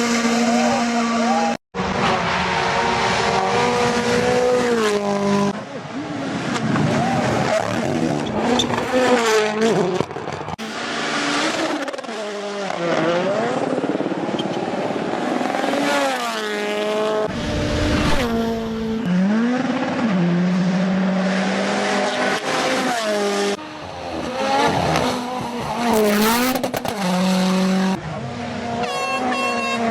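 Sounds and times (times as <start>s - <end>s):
rally car engine revving: 0.0s - 29.9s.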